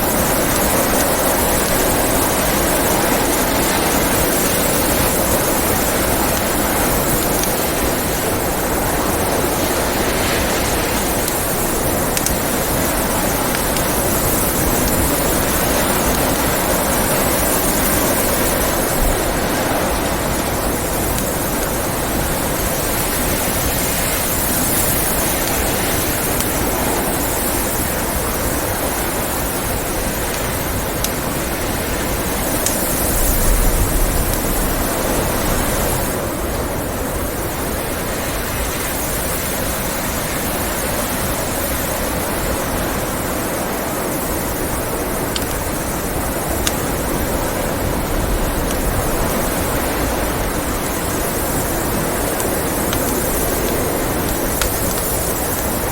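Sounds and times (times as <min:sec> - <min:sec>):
blizzard wind: 0:00.0 - 0:55.9
wood fire crackling: 0:00.0 - 0:55.9.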